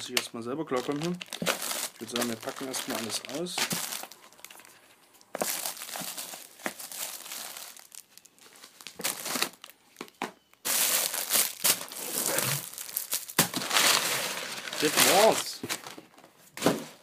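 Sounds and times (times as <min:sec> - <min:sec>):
plastic bags and bubble wrap crinkling: 0:00.0 - 0:17.0.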